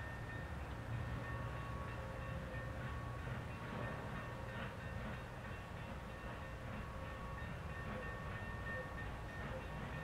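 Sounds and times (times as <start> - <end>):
steam locomotive working hard: 0.0 - 10.0.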